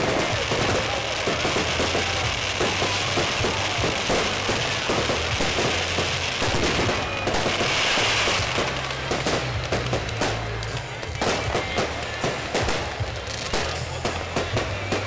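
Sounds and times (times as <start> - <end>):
firecrackers crackling and banging: 0.0 - 15.0.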